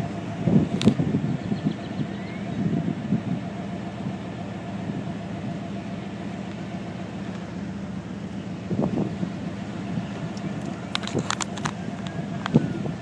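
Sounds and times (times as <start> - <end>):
constant low rumble: 0.0 - 13.0
low mechanical hum: 0.0 - 13.0.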